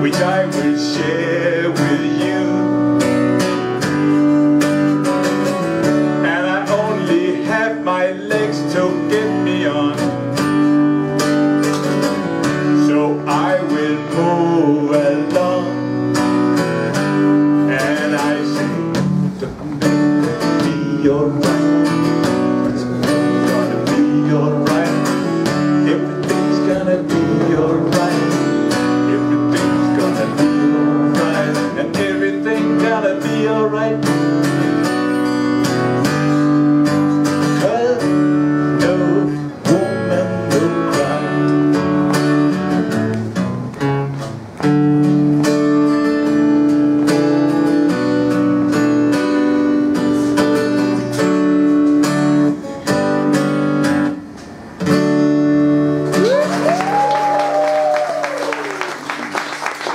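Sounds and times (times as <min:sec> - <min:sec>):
acoustic guitar strumming chords: 0:00.0 - 0:56.6.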